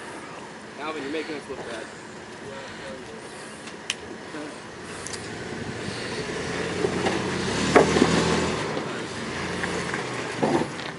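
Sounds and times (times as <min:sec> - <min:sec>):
truck engine under load: 0:00.0 - 0:10.9.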